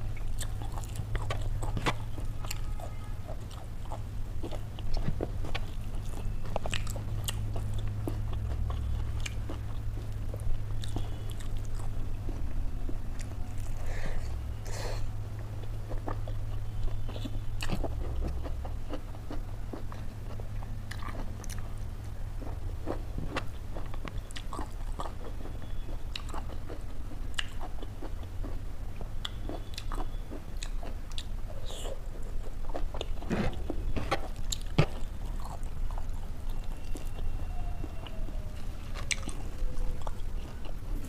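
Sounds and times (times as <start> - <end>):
person chewing food: 0.0 - 41.0
steady low hum: 0.0 - 41.0.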